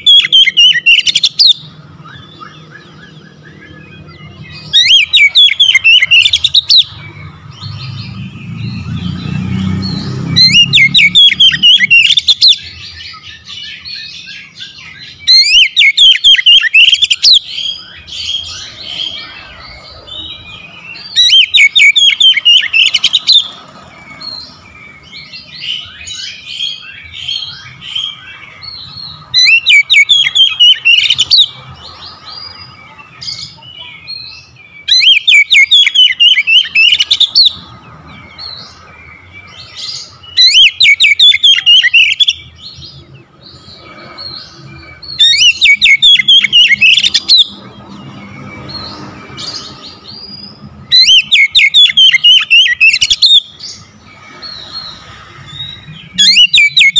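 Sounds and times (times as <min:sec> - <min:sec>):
bird singing warbling phrases: 0:00.0 - 0:56.9.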